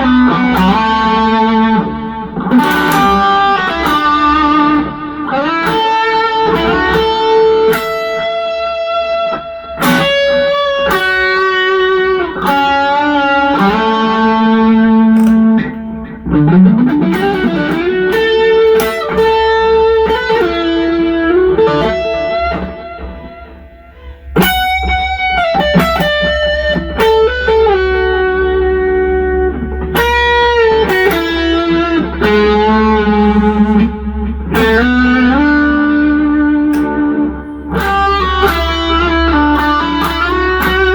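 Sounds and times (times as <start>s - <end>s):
distorted electric guitar: 0.0s - 40.9s.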